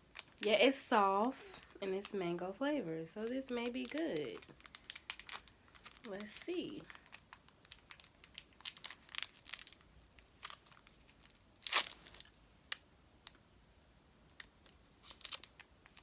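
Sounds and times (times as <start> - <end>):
candy wrapper crinkling and tearing: 0.0 - 2.1, 3.2 - 13.4, 14.3 - 16.0.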